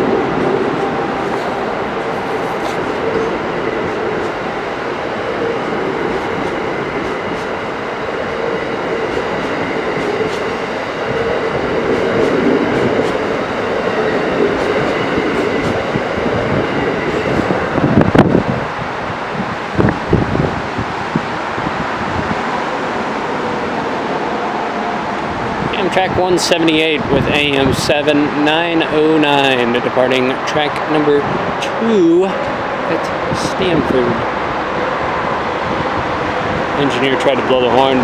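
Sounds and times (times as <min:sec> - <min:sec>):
train cars rumbling on rails: 0:00.0 - 0:38.0
wind buffeting microphone: 0:00.0 - 0:38.0.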